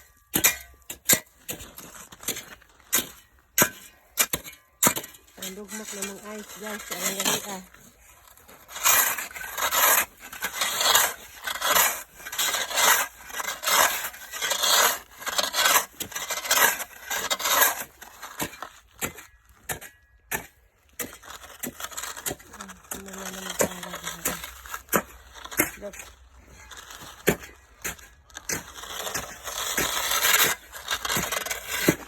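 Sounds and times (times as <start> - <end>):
icy snow crunching and scraping: 0.0 - 32.0.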